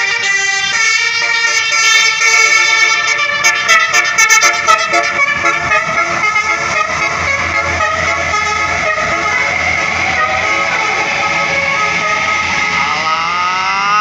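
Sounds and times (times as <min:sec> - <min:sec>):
multi-tone musical bus horn: 0:00.0 - 0:14.0.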